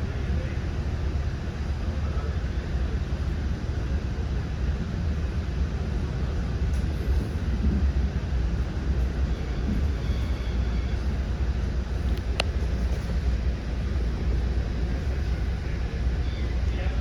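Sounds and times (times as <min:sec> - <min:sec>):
train rumbling inside passenger car: 0:00.0 - 0:17.0.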